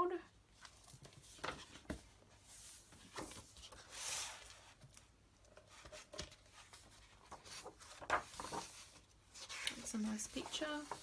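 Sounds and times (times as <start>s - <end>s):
book pages turning: 0.6s - 11.0s.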